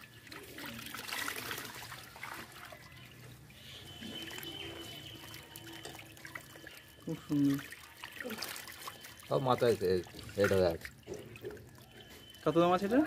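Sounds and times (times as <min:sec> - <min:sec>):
goldfish splashing at water surface: 0:00.0 - 0:13.0.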